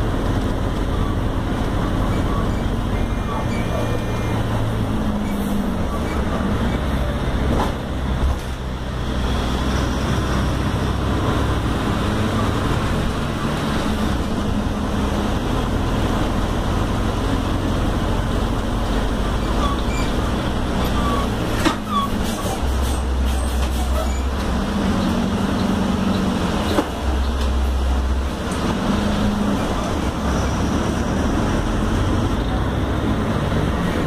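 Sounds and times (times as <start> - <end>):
bus engine drone: 0.0 - 34.0
road noise: 0.0 - 34.0.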